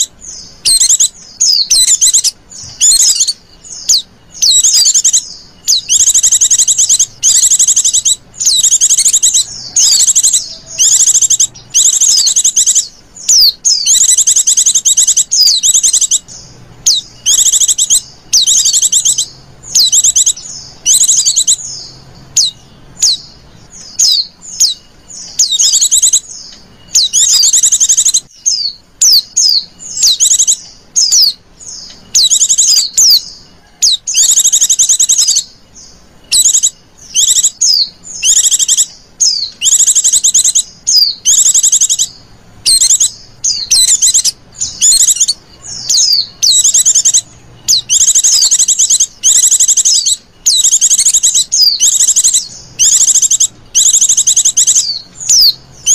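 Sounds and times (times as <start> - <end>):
bird chirping trills: 0.0 - 55.9.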